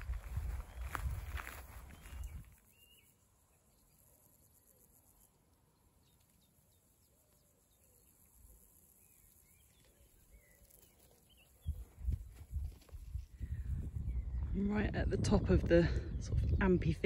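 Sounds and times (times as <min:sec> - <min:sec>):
faint birdsong: 0:00.1 - 0:15.0
insects hissing: 0:00.7 - 0:14.5.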